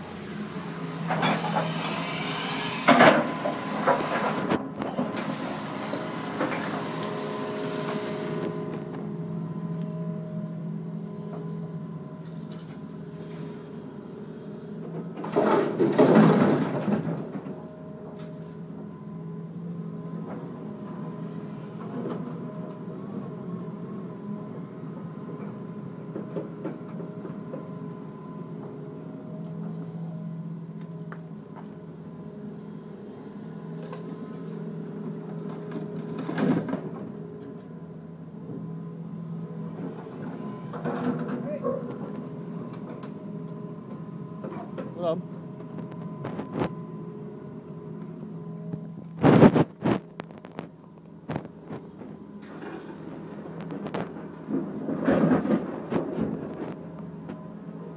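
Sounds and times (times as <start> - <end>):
excavator diesel engine humming: 0.0 - 57.9.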